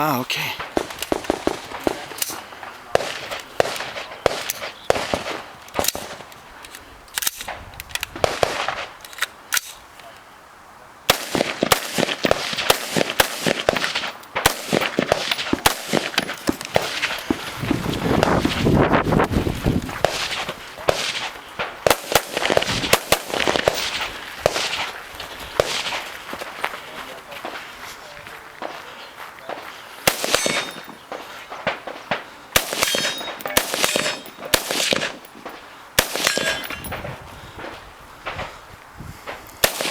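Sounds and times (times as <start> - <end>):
rifle shots: 0.4 - 9.8, 11.1 - 38.6, 39.3 - 39.9.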